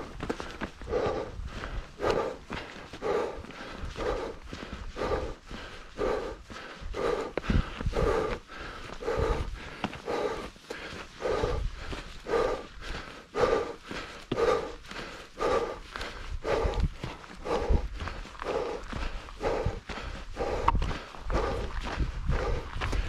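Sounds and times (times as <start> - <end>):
footsteps on dirt trail: 0.0 - 23.0
person breathing hard: 0.0 - 23.0.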